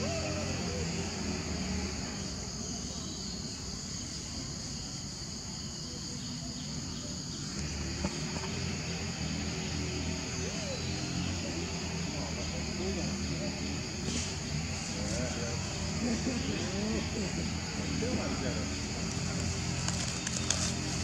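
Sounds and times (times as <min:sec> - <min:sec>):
insect chorus droning: 0:00.0 - 0:21.0.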